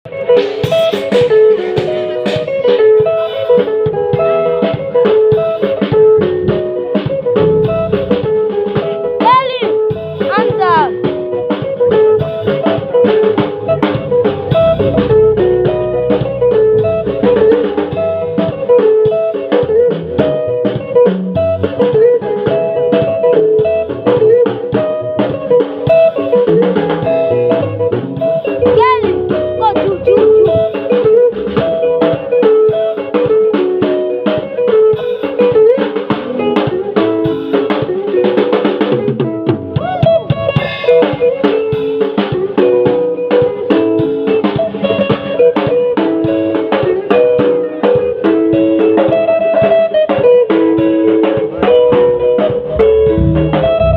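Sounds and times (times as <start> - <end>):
band playing drums and guitar: 0.0 - 53.9.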